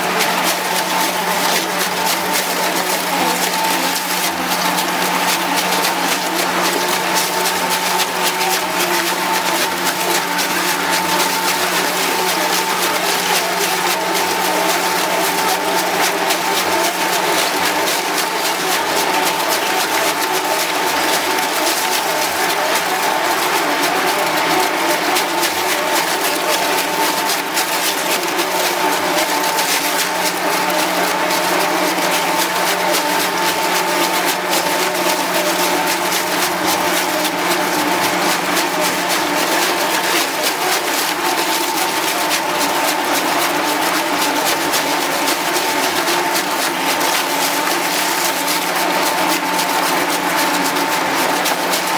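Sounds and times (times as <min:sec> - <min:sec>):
shredder machine tone: 0:00.0 - 0:51.9.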